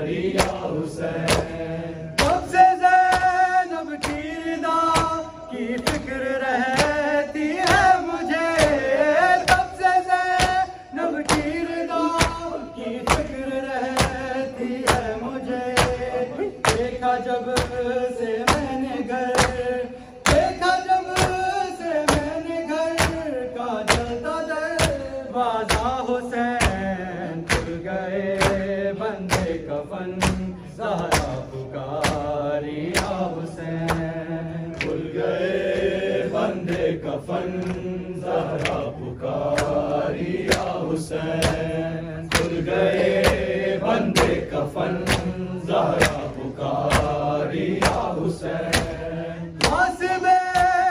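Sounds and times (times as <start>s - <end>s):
men chanting a lament: 0.0s - 50.9s
hand chest-beating: 0.2s - 50.8s.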